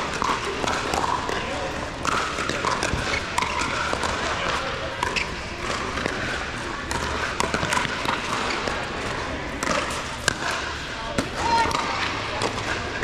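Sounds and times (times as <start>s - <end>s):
crowd and player voices: 0.0s - 13.0s.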